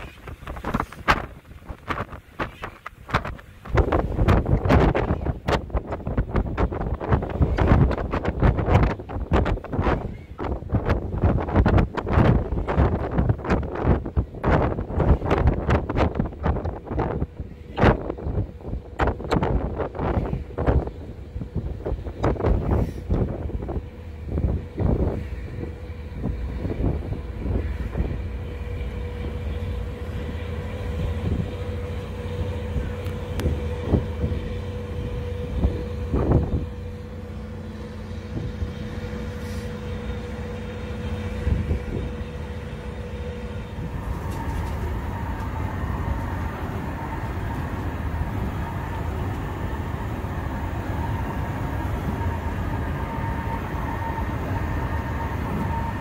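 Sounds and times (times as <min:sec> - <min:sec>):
ferry engines droning: 0:00.0 - 0:56.0
steady higher engine tone: 0:00.0 - 0:56.0
wind gusting on microphone: 0:00.0 - 0:56.0.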